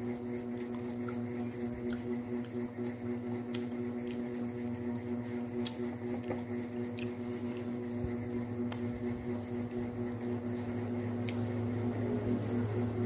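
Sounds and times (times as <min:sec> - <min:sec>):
electrical hum: 0:00.0 - 0:13.0
faint high whine: 0:00.0 - 0:13.0.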